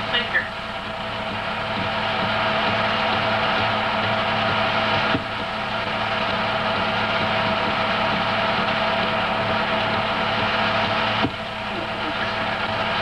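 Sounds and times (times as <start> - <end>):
film projector whirring: 0.0 - 13.0.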